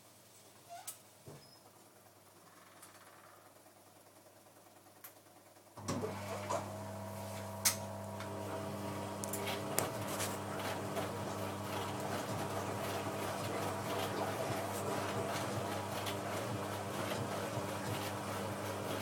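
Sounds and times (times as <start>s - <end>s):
washing machine motor hum: 1.7s - 19.0s.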